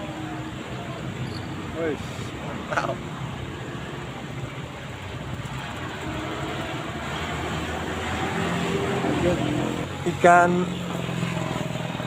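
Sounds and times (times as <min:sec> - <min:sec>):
vehicle engine approaching: 0:00.0 - 0:12.0.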